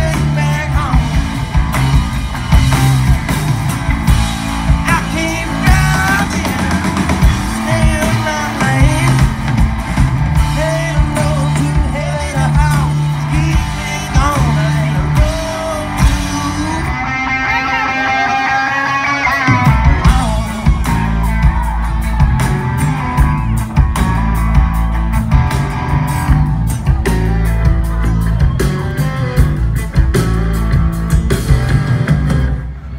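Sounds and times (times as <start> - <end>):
bass guitar: 0.0 - 32.9
bending lead guitar line: 0.0 - 32.9
drums: 0.0 - 32.9
electric and acoustic guitars: 0.0 - 32.9.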